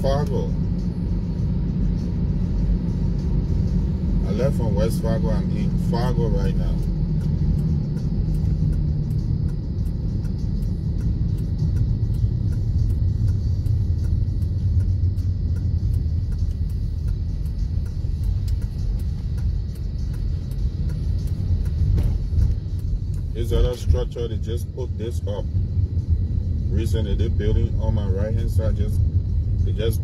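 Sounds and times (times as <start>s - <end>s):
faint music: 0.0s - 30.0s
road and engine rumble: 0.0s - 30.0s.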